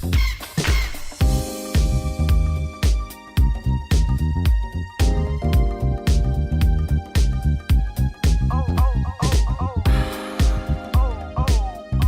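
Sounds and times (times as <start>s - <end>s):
electronic funk music: 0.0s - 12.0s
heavy kick drum beat: 1.2s - 12.0s.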